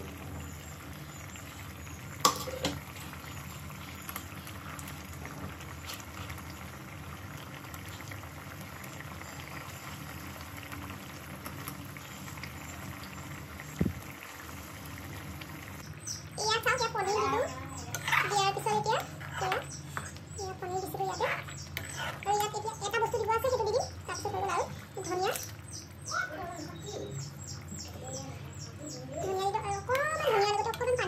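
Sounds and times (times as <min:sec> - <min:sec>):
curry bubbling and popping: 0:00.0 - 0:31.0.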